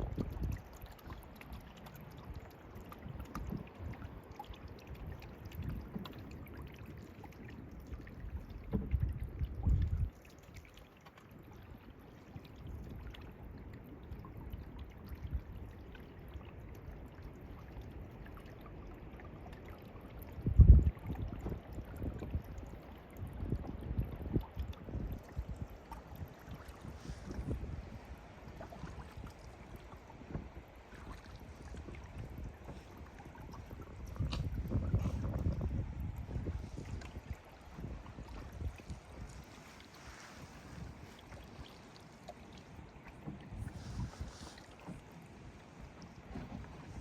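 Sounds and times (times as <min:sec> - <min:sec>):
water trickling and splashing: 0:00.0 - 0:47.0.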